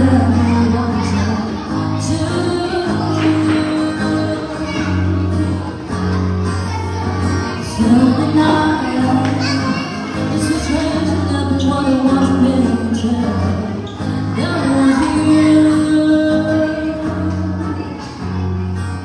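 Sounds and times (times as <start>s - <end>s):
woman singing into a microphone: 0.0s - 5.8s, 7.6s - 18.0s
acoustic guitar: 0.0s - 19.0s.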